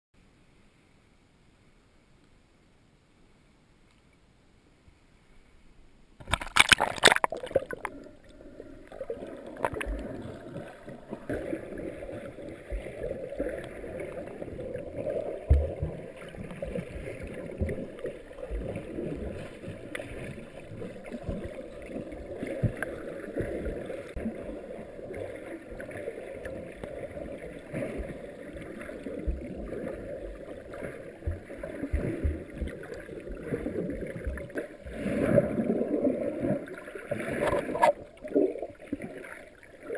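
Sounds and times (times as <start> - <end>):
muffled underwater splash: 6.2 - 39.9
underwater gurgling rush: 6.2 - 39.9.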